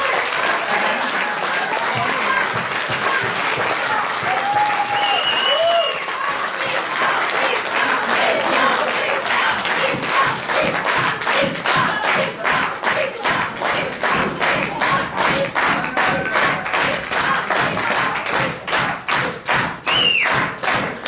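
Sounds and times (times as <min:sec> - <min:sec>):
audience applause: 0:00.0 - 0:21.0
rhythmic clapping in unison: 0:00.0 - 0:21.0.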